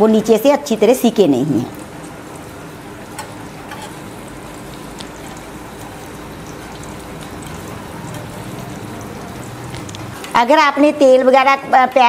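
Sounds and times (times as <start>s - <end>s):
food sizzling in hot oil: 0.0s - 12.0s
faint oil crackles: 0.3s - 12.0s.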